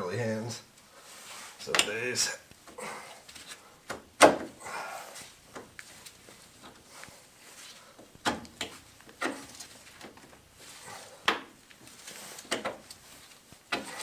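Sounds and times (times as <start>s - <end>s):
handling noise: 1.3s - 14.0s.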